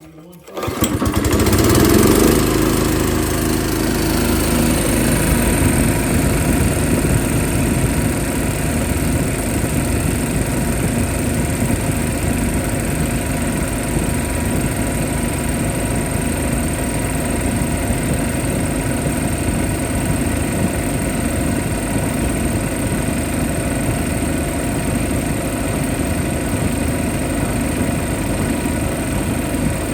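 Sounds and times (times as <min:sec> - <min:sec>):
air compressor running: 0:00.0 - 0:29.9.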